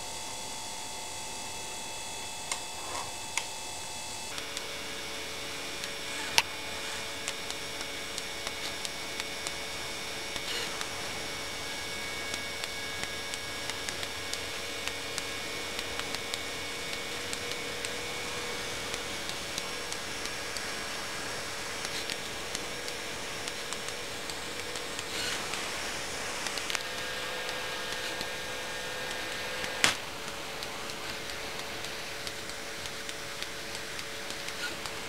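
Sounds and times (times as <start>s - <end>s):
robot motors whining: 2.4s - 35.0s
airbrush spraying hiss: 4.3s - 35.0s
small mechanical clicks: 4.3s - 35.0s.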